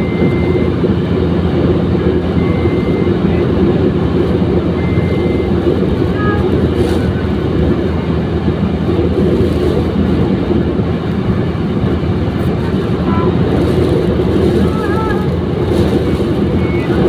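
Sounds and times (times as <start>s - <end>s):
vehicle rumble: 0.0s - 17.0s
wind noise: 0.0s - 17.0s.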